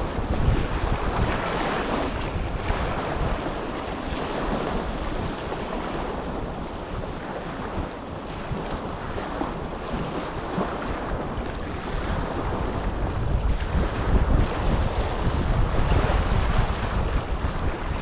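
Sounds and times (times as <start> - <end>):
small waves washing on shore: 0.0 - 18.0
wind buffeting microphone: 0.0 - 18.0.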